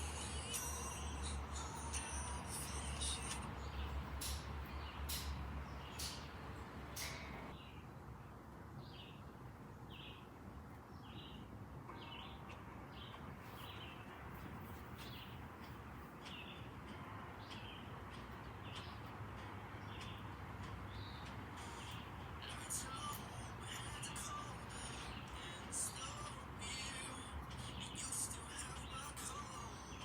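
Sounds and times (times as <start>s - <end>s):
bird chirping: 0.0s - 7.8s, 11.0s - 16.7s, 17.4s - 30.0s.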